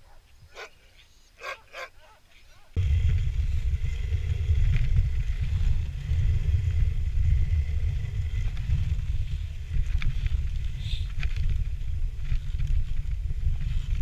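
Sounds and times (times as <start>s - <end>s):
sled gliding over snow: 2.8s - 14.0s
wind rumble on microphone: 2.8s - 14.0s.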